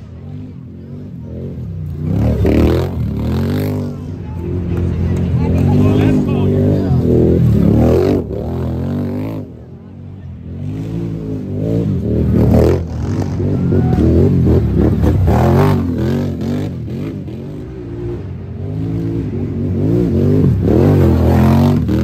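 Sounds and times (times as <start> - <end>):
quad engines revving: 0.0 - 22.0.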